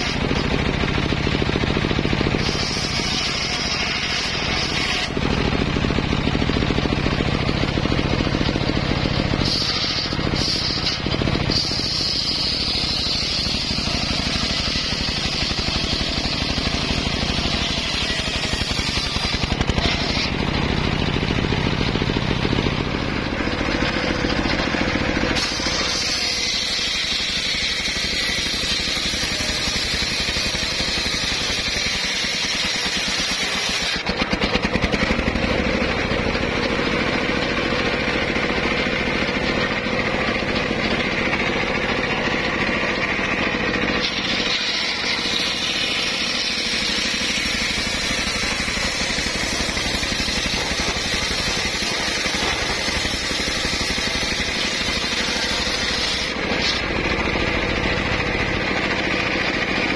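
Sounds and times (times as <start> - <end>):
circular saw cutting timber: 0.0 - 59.9.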